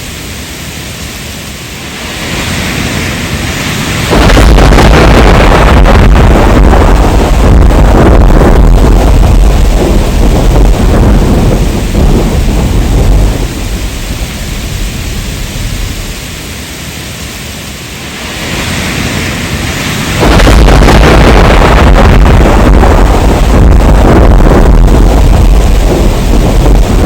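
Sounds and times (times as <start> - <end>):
heavy rain: 0.0 - 27.0
thunder rumbling: 1.7 - 17.3, 17.9 - 27.0.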